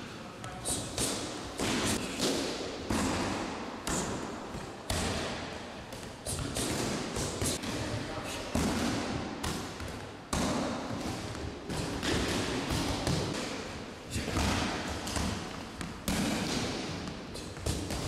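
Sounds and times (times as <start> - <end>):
punches and kicks hitting pads: 1.0 - 7.9, 8.5 - 18.0.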